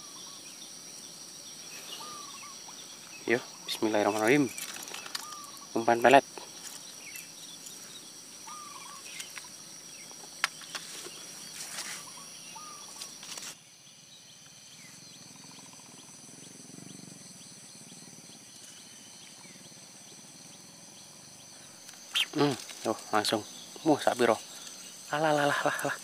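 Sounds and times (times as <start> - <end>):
bird chirps: 0.0 - 13.2, 13.8 - 26.0
high insect trill: 0.0 - 26.0.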